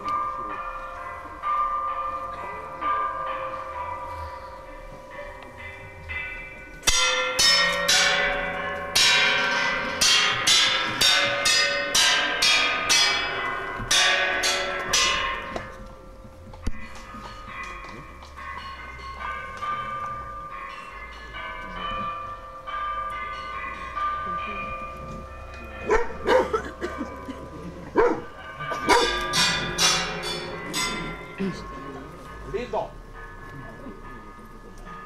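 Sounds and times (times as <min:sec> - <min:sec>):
bell-like ringing strikes: 0:00.0 - 0:16.1, 0:16.8 - 0:35.0.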